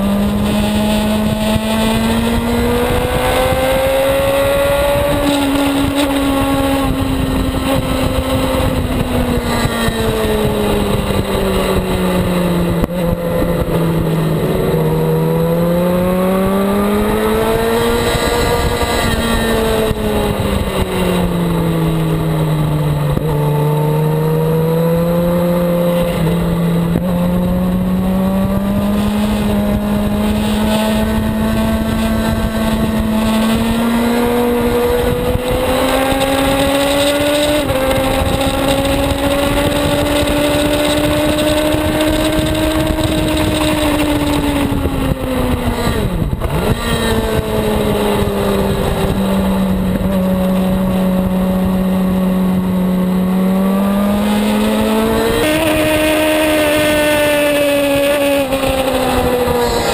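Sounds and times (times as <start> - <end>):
motorcycle engine running hard: 0.0 - 59.9
wind rush: 0.0 - 59.9.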